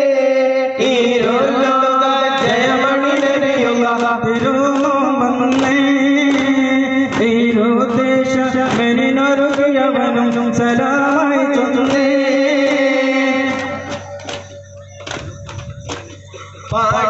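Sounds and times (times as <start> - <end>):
men chanting devotional song: 0.0 - 17.0.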